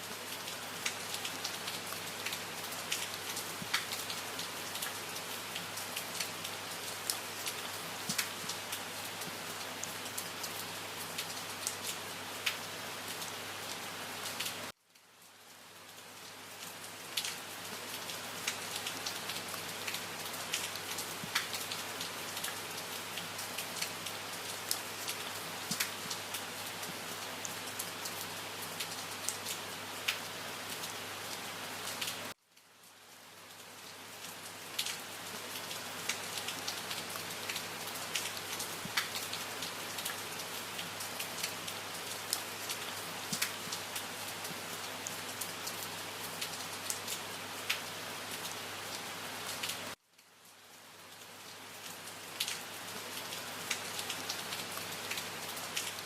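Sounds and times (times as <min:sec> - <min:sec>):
rain drops ticking on surface: 0:00.0 - 0:56.0.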